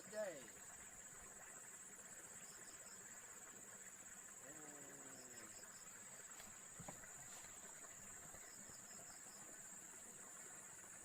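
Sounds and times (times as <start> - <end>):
insect chirps in quick groups: 0.0 - 11.0
insect trilling: 0.0 - 11.0.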